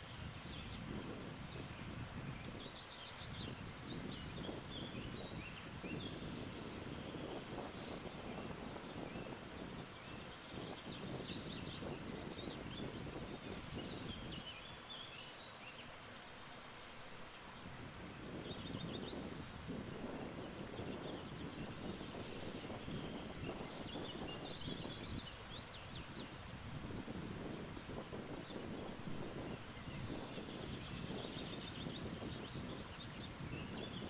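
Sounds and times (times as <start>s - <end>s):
wind gusting on microphone: 0.0s - 14.5s, 17.8s - 34.0s.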